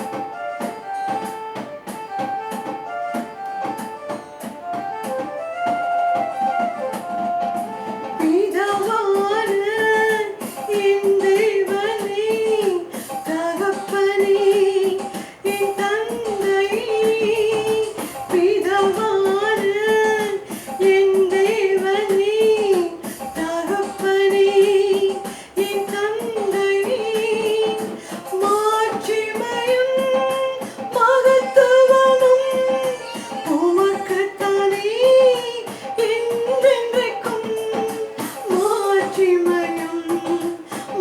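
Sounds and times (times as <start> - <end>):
person singing with vibrato: 7.7 - 41.0.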